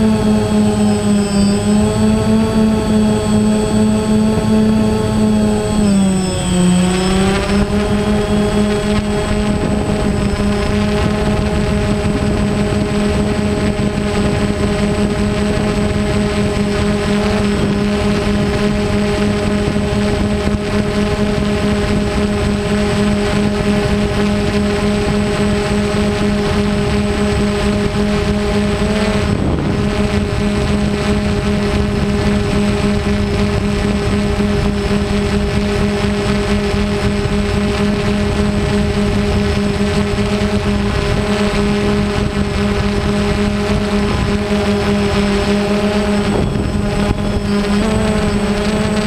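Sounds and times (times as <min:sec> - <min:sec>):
drone propellers whining: 0:00.0 - 0:49.0.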